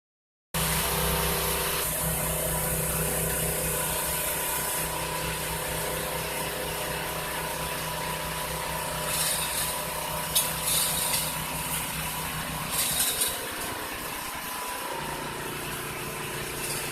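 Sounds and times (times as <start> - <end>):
small engine running: 0.6 - 16.9.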